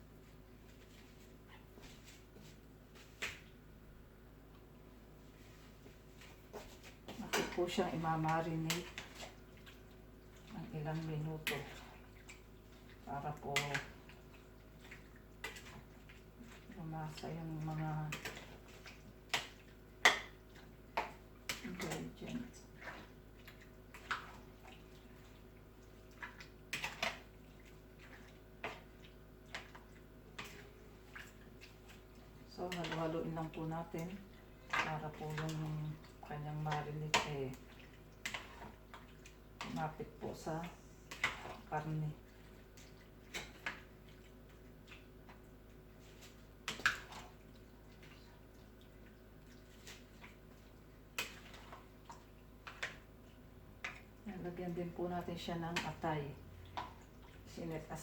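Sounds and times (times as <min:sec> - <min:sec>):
wet clicks of meat mixed by hand: 0:02.4 - 0:03.7, 0:05.8 - 0:58.0.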